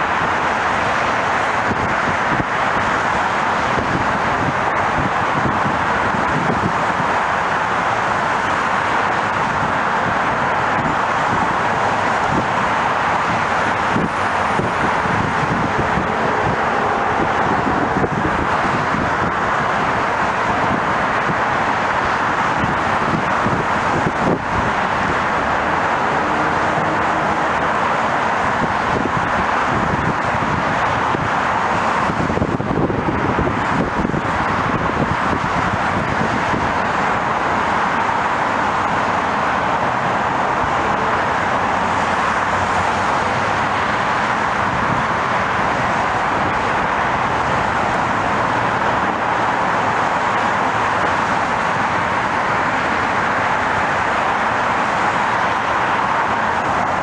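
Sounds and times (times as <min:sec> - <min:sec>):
traffic noise: 0:00.0 - 0:57.0.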